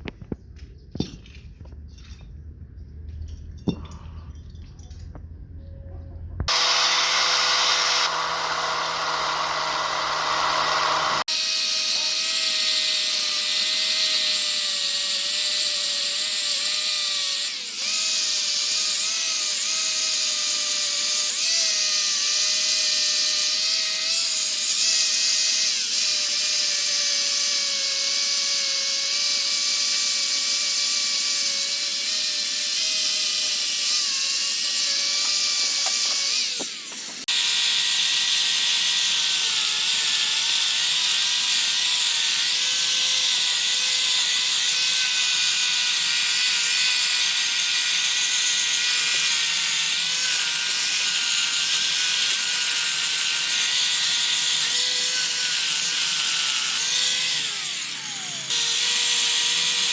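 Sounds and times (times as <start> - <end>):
power tool whining: 6.5 - 59.9.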